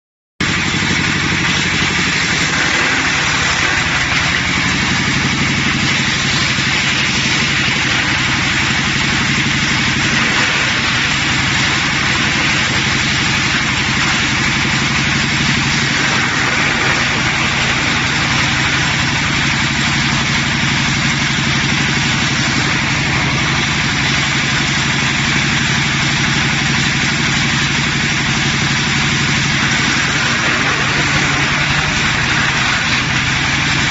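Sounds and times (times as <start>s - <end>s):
wood crusher running: 0.4s - 33.9s.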